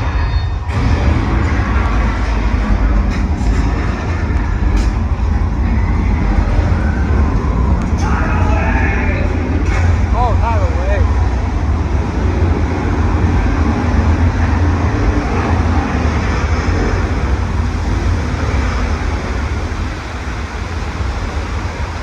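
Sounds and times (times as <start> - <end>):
tram ride rumble and rushing: 0.0 - 22.0.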